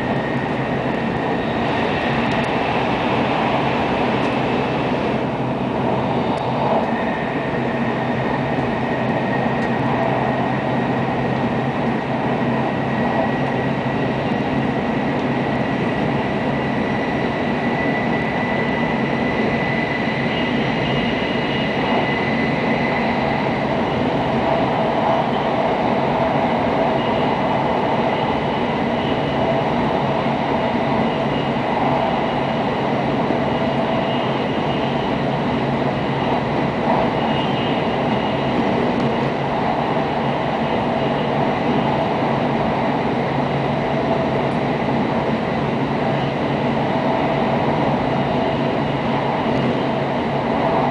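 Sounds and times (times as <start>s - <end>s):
train wheels rumbling: 0.0s - 50.9s.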